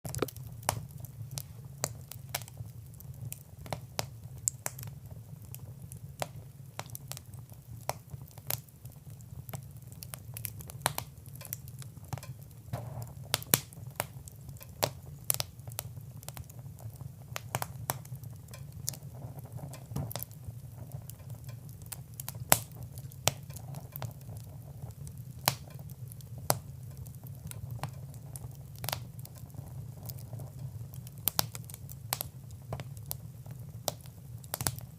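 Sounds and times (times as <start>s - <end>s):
fire crackling and popping: 0.0s - 34.9s.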